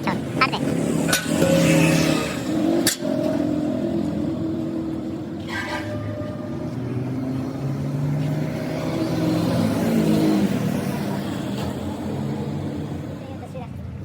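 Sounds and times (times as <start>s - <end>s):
vehicle engine passing by: 0.6s - 13.4s.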